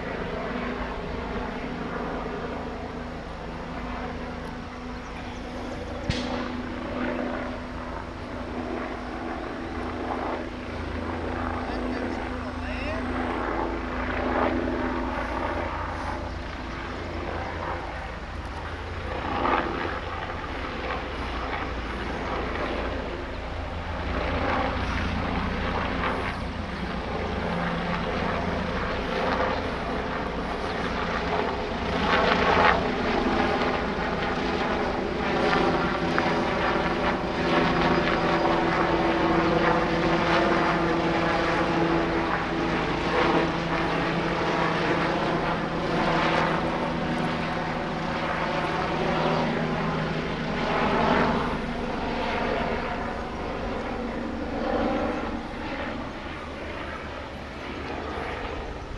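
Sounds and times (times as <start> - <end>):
helicopter rotor and engine drone: 0.0 - 58.9.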